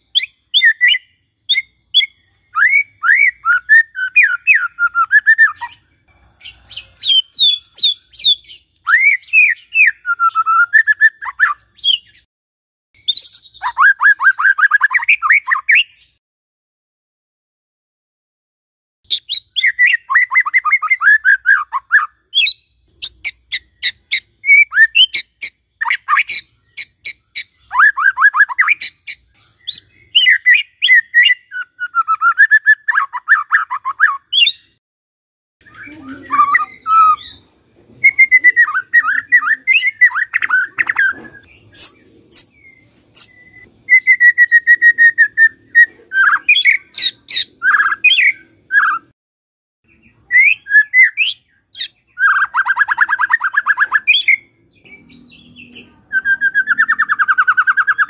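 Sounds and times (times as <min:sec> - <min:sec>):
bird singing varied phrases: 0:00.0 - 0:12.3, 0:13.0 - 0:16.2, 0:19.1 - 0:34.8, 0:35.6 - 0:49.1, 0:49.8 - 0:58.0.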